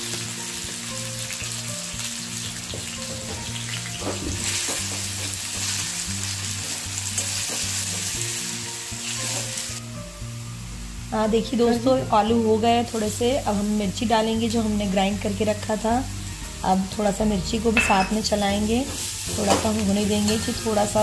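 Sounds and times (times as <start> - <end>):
potatoes sizzling in hot oil: 0.0 - 21.0.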